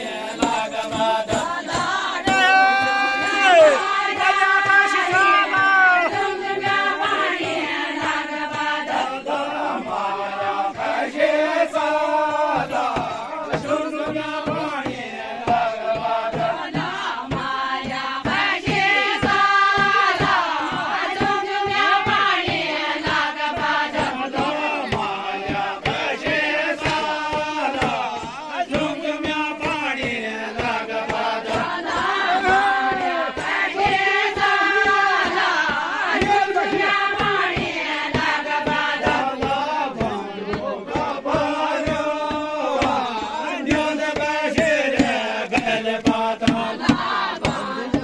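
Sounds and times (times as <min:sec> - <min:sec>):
group singing folk song: 0:00.0 - 0:48.0
steady beat: 0:00.0 - 0:48.0.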